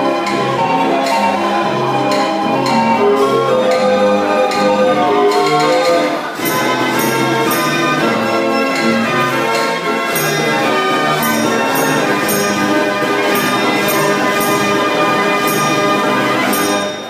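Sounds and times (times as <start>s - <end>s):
percussion beat: 0.0s - 17.0s
street organ playing a tune: 0.0s - 17.0s.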